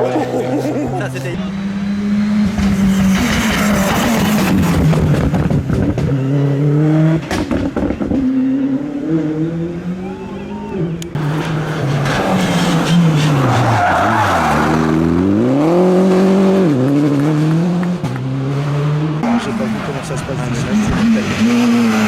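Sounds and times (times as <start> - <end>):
rally car engine revving: 0.0 - 22.0
tyres skidding: 0.0 - 22.0.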